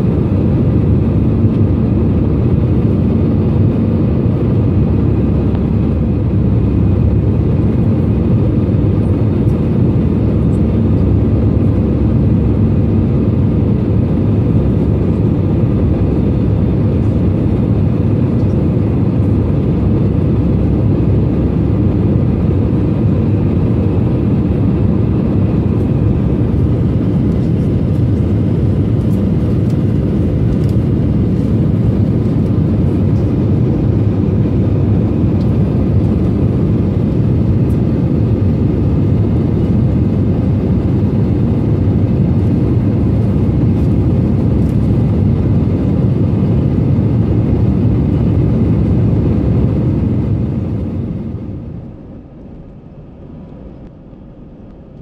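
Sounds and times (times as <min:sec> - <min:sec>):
jet engine and airflow roar: 0:00.0 - 0:55.0.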